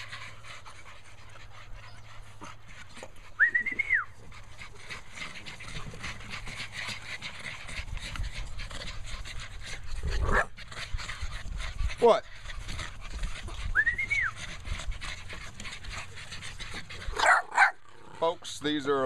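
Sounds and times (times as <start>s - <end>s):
puppy whining: 0.0s - 11.4s, 12.0s - 18.0s
puppies panting: 0.0s - 19.0s.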